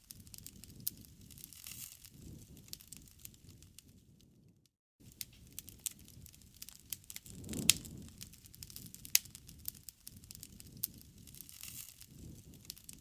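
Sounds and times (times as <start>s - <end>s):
campfire crackling: 0.0s - 13.0s
loud fire pops: 0.0s - 13.0s
low rumble of flame: 0.0s - 13.0s.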